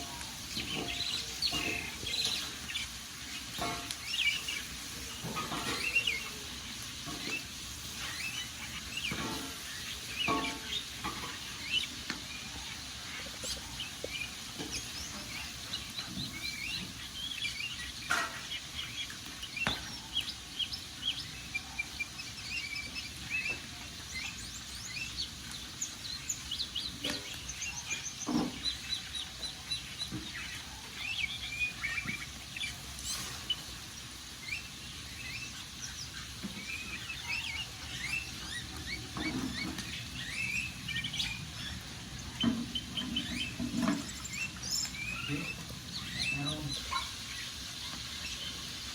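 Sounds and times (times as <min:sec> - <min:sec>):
birds chirping and twittering: 0:00.0 - 0:48.9
wood fire crackling: 0:00.0 - 0:48.9.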